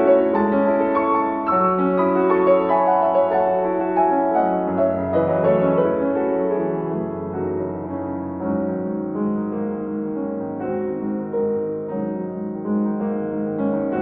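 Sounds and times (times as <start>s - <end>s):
slow gentle piano piece: 0.0s - 14.0s.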